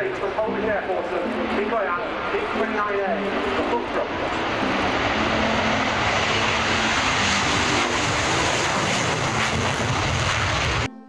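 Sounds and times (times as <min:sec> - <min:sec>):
jet fighter roar: 0:01.6 - 0:10.9.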